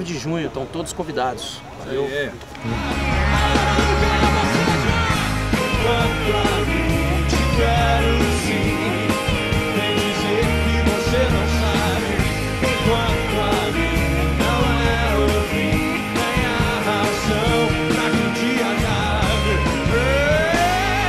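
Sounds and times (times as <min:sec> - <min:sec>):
person singing: 0:02.6 - 0:21.0
rock band playing: 0:02.6 - 0:21.0.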